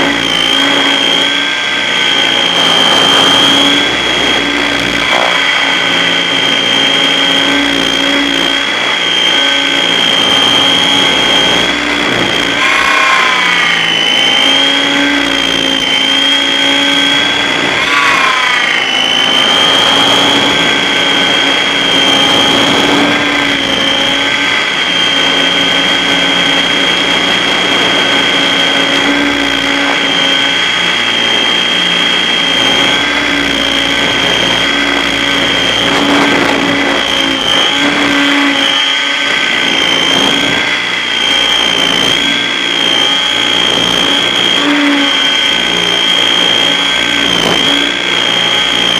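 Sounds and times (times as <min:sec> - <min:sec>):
rc helicopter rotor whine: 0:00.0 - 0:48.9.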